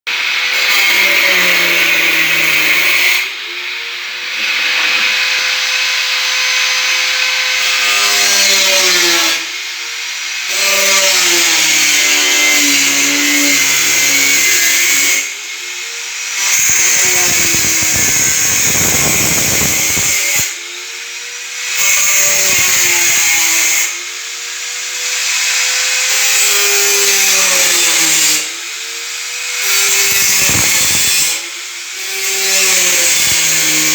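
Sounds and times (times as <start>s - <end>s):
electric power tool motor: 0.1s - 33.9s.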